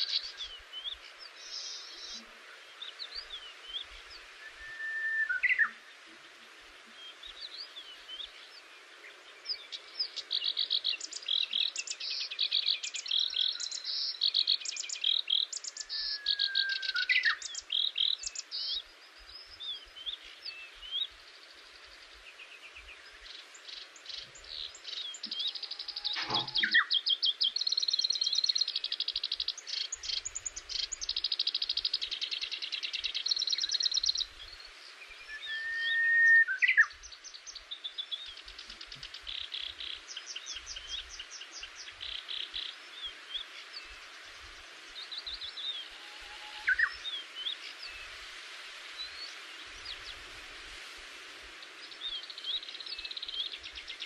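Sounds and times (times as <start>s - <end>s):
songbirds trilling and chirping: 0.0s - 54.0s
steady low hiss: 0.0s - 54.0s.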